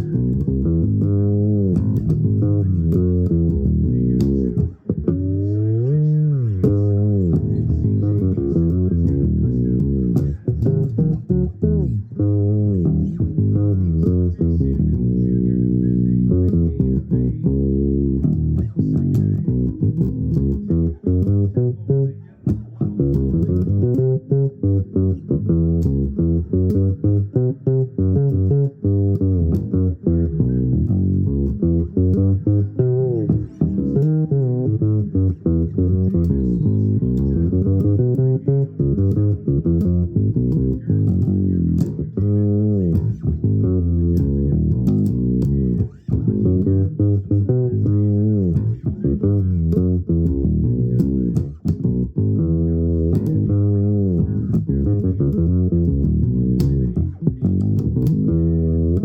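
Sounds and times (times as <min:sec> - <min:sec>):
low plucked string instrument solo: 0:00.0 - 0:59.0.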